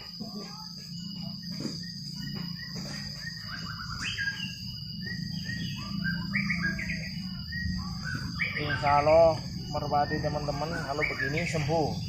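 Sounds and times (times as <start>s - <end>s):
birds chirping: 0.0s - 12.0s
steady high-pitched tone: 0.0s - 12.0s.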